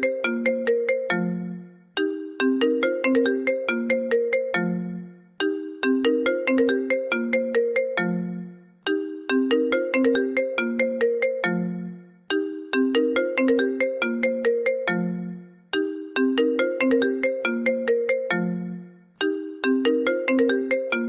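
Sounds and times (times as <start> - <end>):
phone ringtone melody: 0.0 - 21.0.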